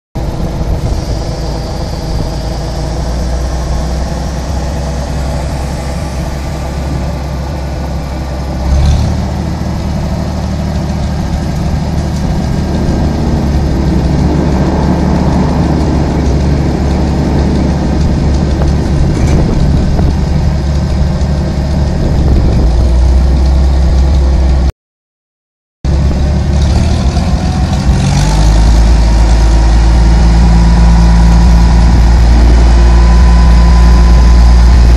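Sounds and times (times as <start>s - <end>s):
engine running steadily: 0.2s - 24.7s, 25.9s - 34.9s.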